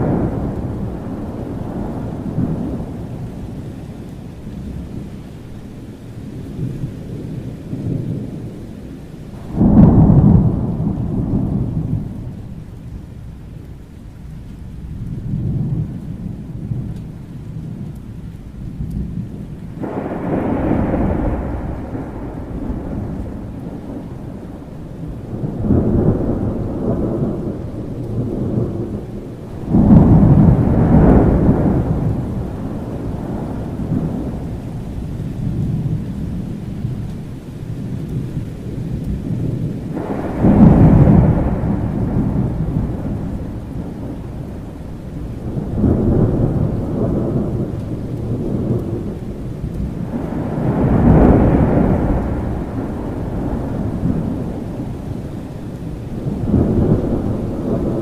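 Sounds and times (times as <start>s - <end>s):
thunder claps: 0.0s - 5.1s, 9.3s - 13.0s, 14.8s - 37.2s, 37.8s - 58.0s
steady rain: 0.0s - 58.0s
thunder rumbling: 0.0s - 58.0s.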